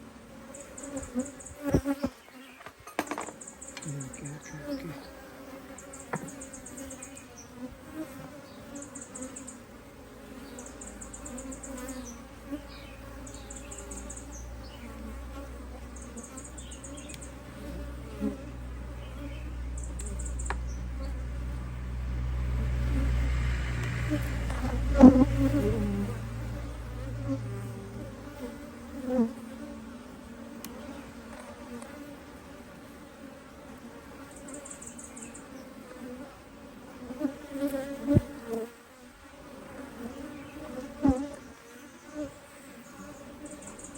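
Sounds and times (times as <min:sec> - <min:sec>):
honeybee colony buzzing: 0:00.0 - 0:43.9.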